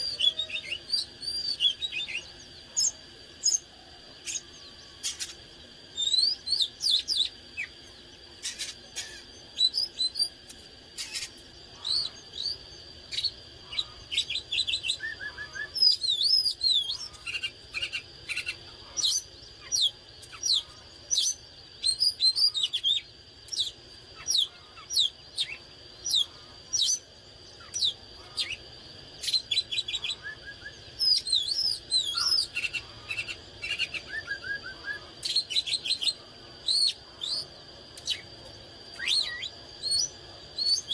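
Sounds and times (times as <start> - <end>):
bird singing varied song: 0.0 - 40.9
faint high whine: 0.0 - 40.9.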